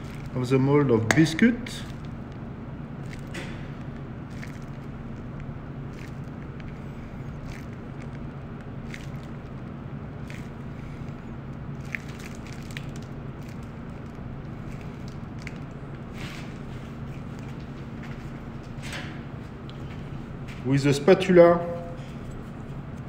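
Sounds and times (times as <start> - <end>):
batter squishing from piping bag: 0.0 - 18.5
low machine hum: 0.0 - 23.0.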